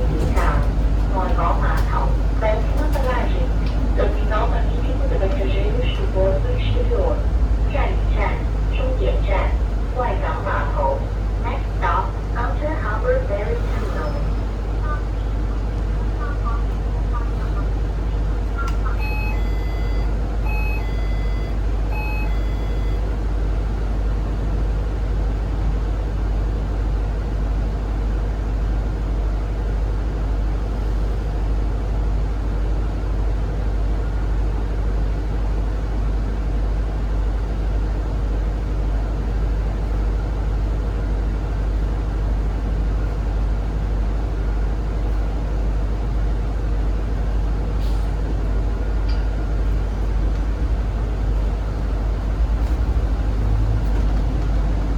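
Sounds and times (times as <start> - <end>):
bus engine drone: 0.0 - 54.9.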